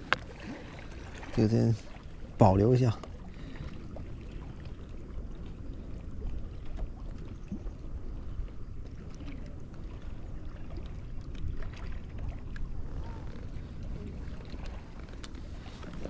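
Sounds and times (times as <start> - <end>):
low outdoor rumbling: 0.0 - 16.0.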